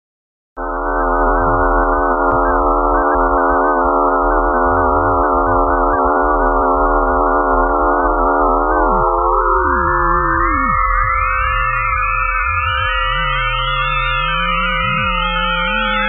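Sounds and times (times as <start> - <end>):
electronic alarm tone chord: 0.6 - 16.0.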